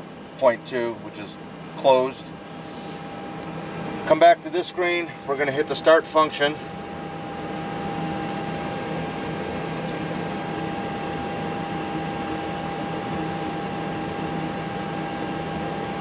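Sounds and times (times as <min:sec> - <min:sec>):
ventilation hum and hiss: 0:00.0 - 0:16.0.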